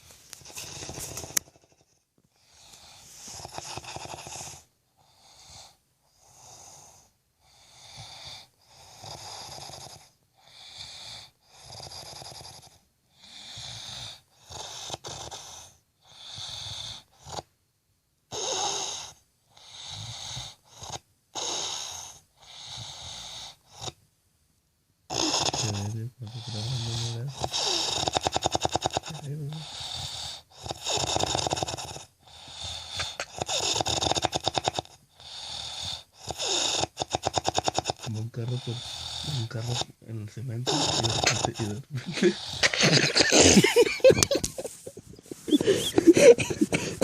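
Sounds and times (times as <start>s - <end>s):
wheezy snoring: 0.4s - 17.5s, 18.3s - 24.0s, 25.1s - 47.0s.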